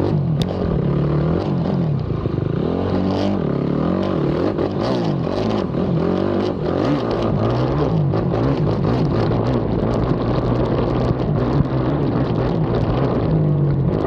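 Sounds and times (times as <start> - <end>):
atv engine revving hard: 0.0 - 14.0.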